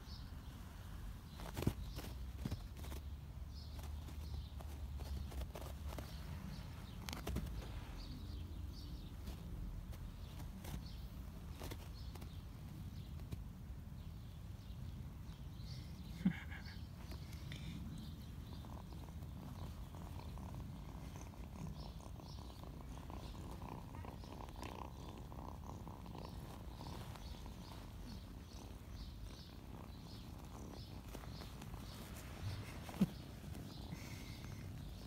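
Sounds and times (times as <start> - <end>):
kitten purring: 0.1 - 35.0.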